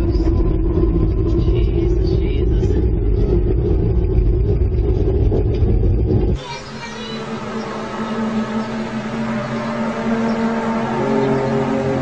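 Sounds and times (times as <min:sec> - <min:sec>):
droning hum: 0:00.0 - 0:12.0
loud low rumble: 0:00.0 - 0:12.0.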